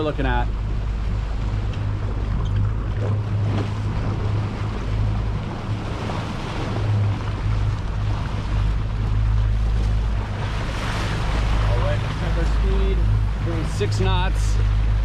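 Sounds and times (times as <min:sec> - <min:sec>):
boat engine humming: 0:00.0 - 0:15.0
water rushing past hull: 0:00.0 - 0:15.0
wind buffeting microphone: 0:00.0 - 0:15.0.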